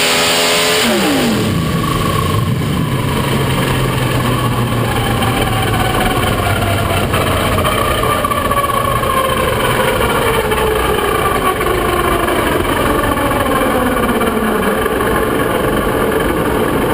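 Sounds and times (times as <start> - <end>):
drag racing truck engine running: 0.0 - 16.9.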